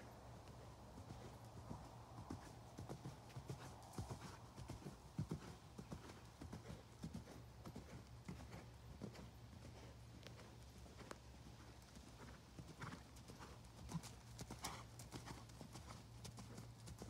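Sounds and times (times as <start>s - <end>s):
horse hoofbeats on sand: 0.4s - 17.0s.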